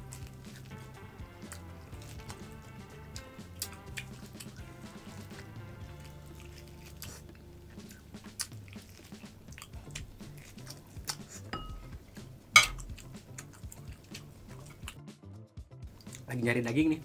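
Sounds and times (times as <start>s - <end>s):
man chewing meat: 0.0s - 15.1s, 15.8s - 16.3s
quiet background music: 0.0s - 17.0s.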